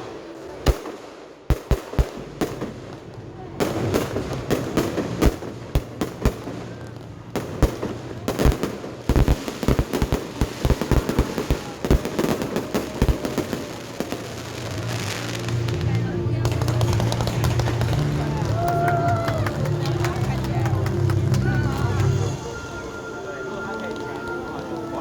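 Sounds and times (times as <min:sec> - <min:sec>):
fireworks bangs: 0:00.0 - 0:22.8
fireworks crackle: 0:00.0 - 0:25.0.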